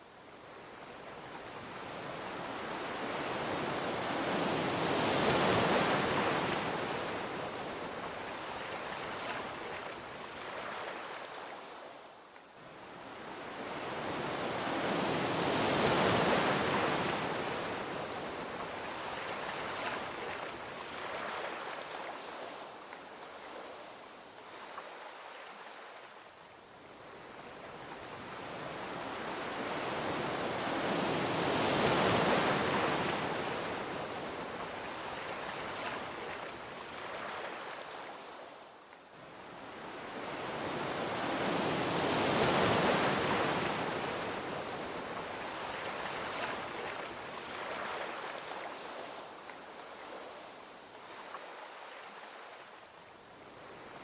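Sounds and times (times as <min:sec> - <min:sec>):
ocean waves on a beach: 0:00.0 - 0:54.0.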